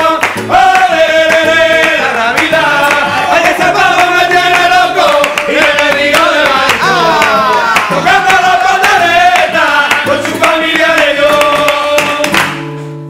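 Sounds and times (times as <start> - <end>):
christmas song: 0.0 - 12.9.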